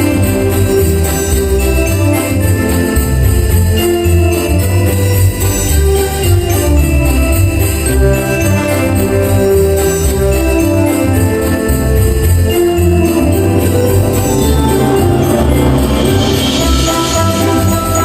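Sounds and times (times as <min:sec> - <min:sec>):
christmas music: 0:00.0 - 0:18.0
jingle bells shaking: 0:00.0 - 0:18.0.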